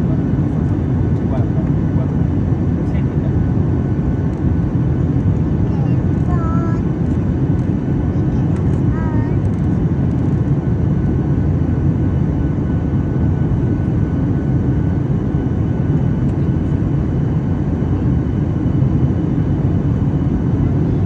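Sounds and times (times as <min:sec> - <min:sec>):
airliner engine roar in cabin: 0:00.0 - 0:21.0.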